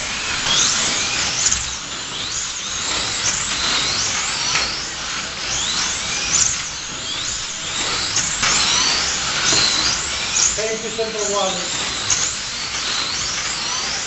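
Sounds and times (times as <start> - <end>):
slot car motors whining: 0.0 - 14.0.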